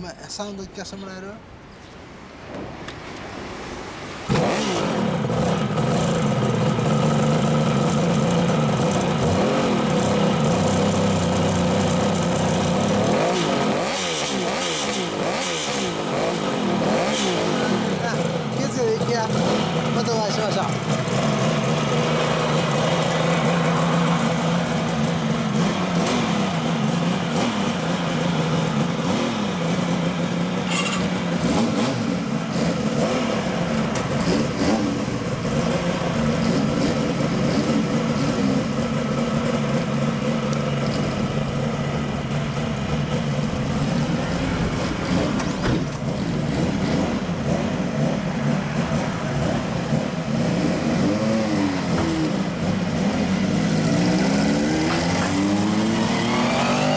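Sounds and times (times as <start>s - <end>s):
motorcycle engines revving: 3.8s - 56.9s
motorcycles pulling away: 4.2s - 56.9s.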